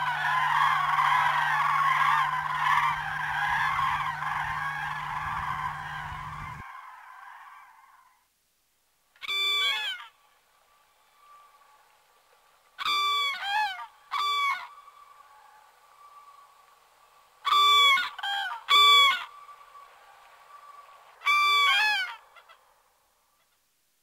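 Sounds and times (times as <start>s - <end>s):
cranes trumpeting: 0.0s - 8.2s, 9.2s - 23.6s
faint background bird calling: 0.0s - 8.4s, 9.0s - 23.9s.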